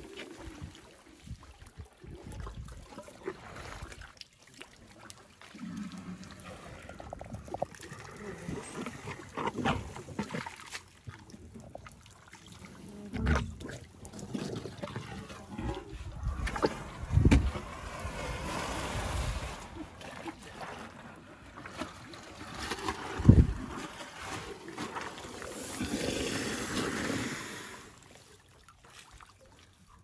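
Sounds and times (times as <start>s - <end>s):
water dribbling and splashing: 0.0s - 30.0s.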